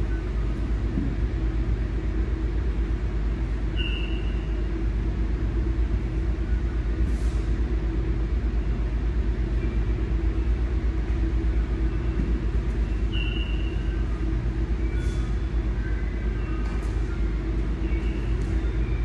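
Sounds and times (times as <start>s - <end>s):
faint hum: 0.0s - 19.0s
low mechanical rumble: 0.0s - 19.0s.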